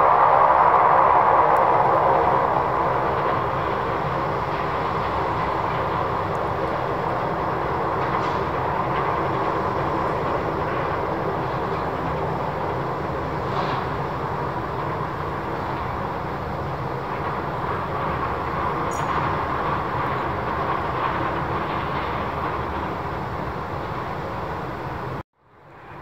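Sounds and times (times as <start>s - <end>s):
jet engines running: 0.0s - 25.2s.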